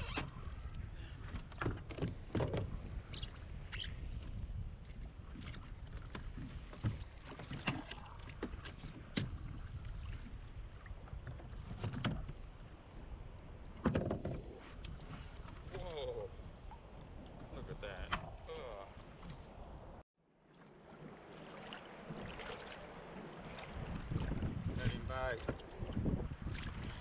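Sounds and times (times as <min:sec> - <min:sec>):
wind and sea water rushing: 0:00.0 - 0:27.0.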